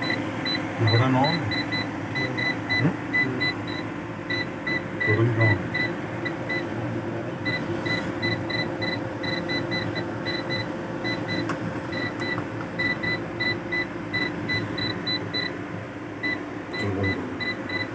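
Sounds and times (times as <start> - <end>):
alarm buzzer beeping: 0.0 - 6.7, 7.5 - 15.6
steady low hum: 0.0 - 17.9.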